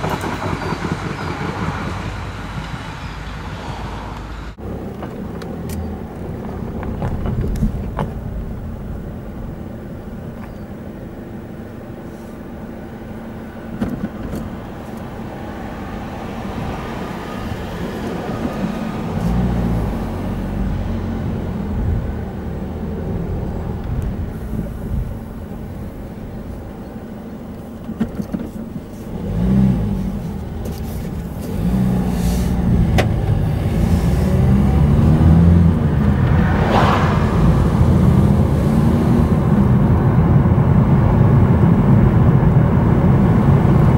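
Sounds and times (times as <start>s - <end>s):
car engine: 0.0s - 43.9s
road noise: 0.0s - 43.9s.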